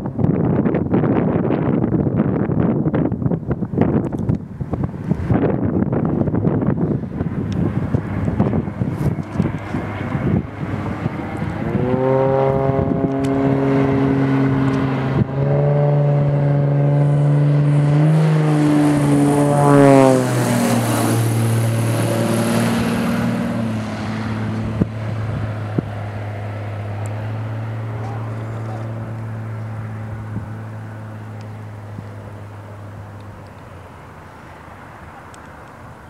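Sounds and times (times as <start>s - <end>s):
propeller plane droning past: 5.0s - 36.0s.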